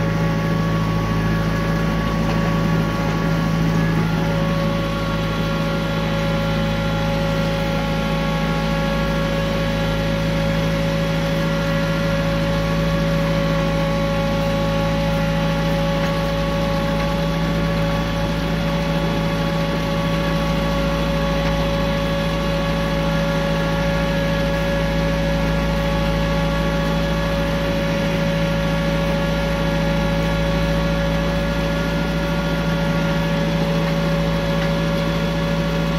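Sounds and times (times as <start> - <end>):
tractor engine humming with whine: 0.0 - 35.9.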